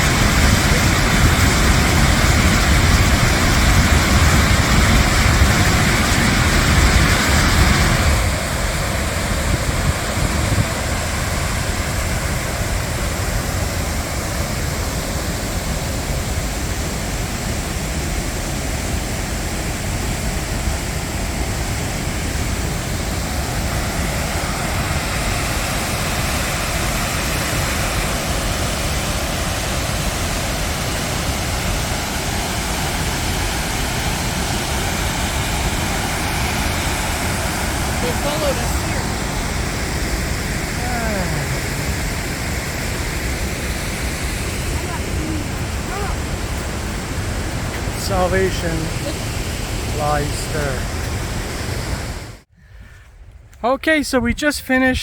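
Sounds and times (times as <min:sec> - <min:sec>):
waterfall rushing: 0:00.0 - 0:52.5.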